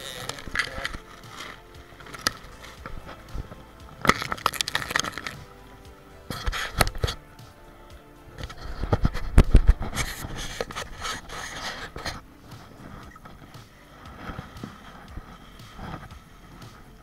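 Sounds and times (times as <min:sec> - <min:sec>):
scraping and rubbing: 0:00.0 - 0:07.3, 0:08.4 - 0:17.0.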